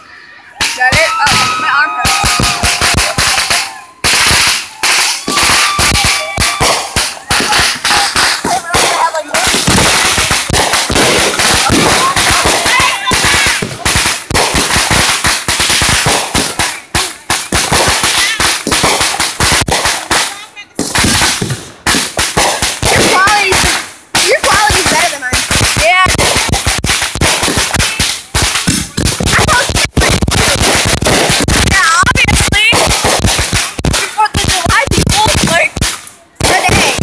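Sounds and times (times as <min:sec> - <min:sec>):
fireworks banging and crackling: 0:00.0 - 0:37.0.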